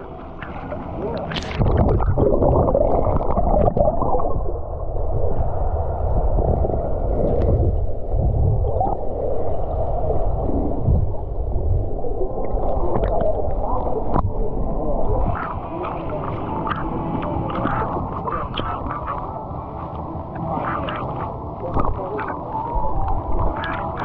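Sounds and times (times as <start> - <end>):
muffled underwater gurgling: 0.0 - 24.0.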